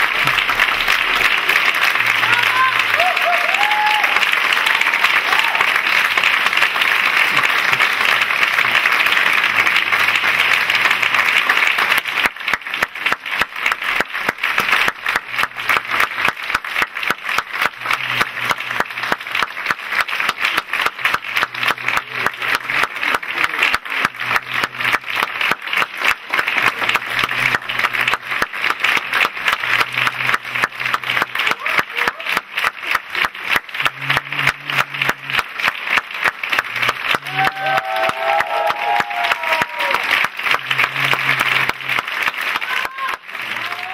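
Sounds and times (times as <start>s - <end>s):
audience applauding: 0.0s - 43.9s
rhythmic clapping in unison: 0.0s - 43.9s.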